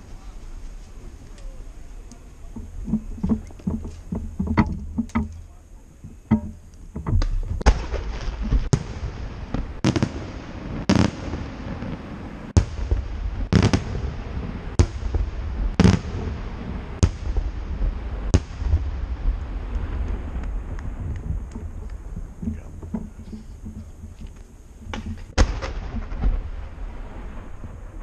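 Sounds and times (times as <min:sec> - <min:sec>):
low rumble: 0:00.0 - 0:28.0
firework shells bursting: 0:00.2 - 0:28.0.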